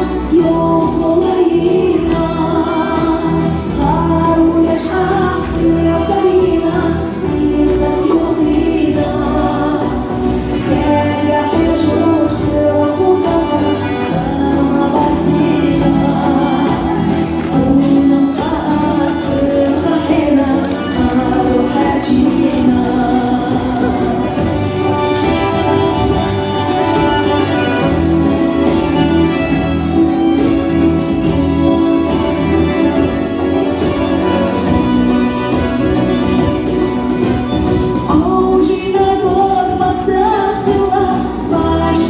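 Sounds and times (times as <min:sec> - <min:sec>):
group singing with music: 0:00.0 - 0:42.0.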